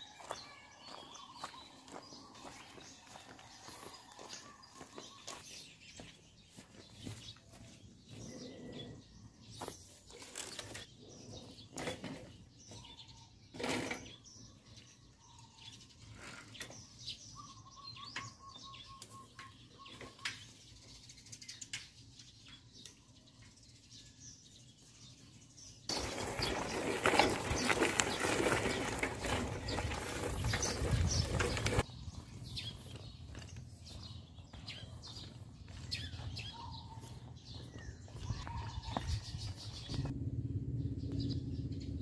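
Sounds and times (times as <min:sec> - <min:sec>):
bird chirps: 0:00.0 - 0:26.6, 0:29.6 - 0:40.2.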